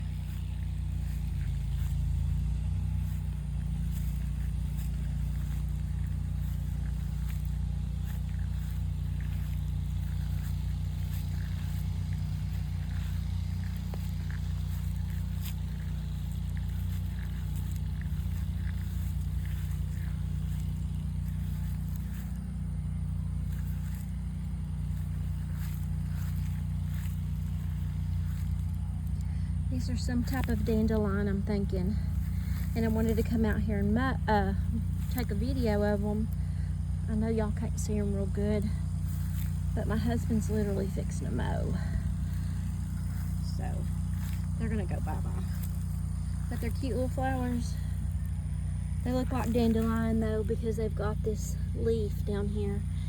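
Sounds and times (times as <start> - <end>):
faint crackles and ticks: 0.0 - 53.0
low rumble: 0.0 - 53.0.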